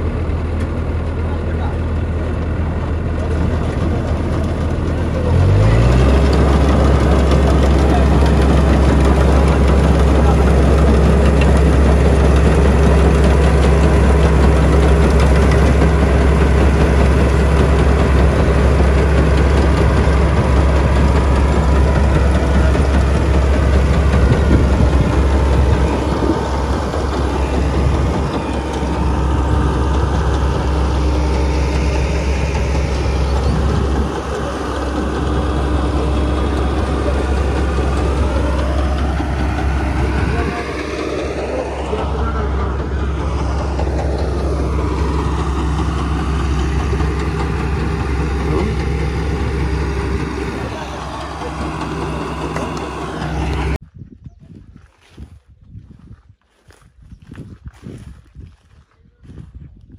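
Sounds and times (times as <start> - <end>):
heavy engine rumbling: 0.0 - 59.9.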